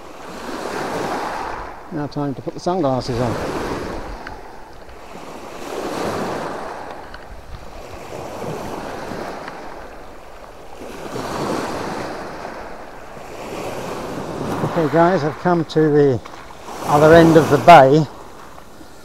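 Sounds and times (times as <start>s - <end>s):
small waves breaking on shore: 0.0s - 19.0s
wind on microphone: 0.0s - 19.0s.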